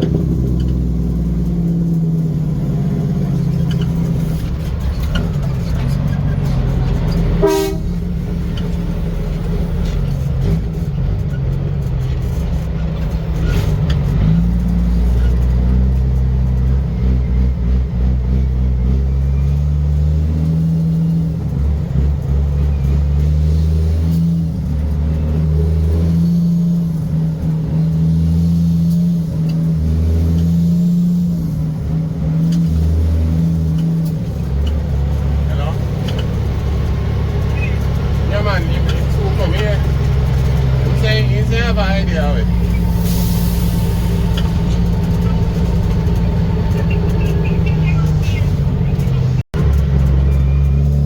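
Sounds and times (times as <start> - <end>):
large trucks running: 0.0 - 51.0.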